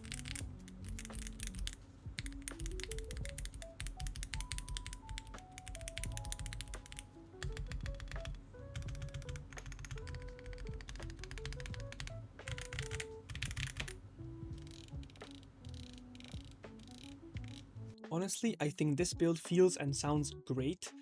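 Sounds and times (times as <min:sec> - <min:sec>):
mechanical keyboard typing: 0:00.0 - 0:14.0, 0:14.6 - 0:17.6
background music: 0:00.0 - 0:21.0.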